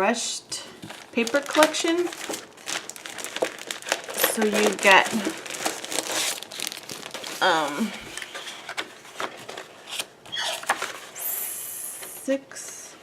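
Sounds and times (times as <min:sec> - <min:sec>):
paper crinkling and rustling: 0:00.7 - 0:11.2.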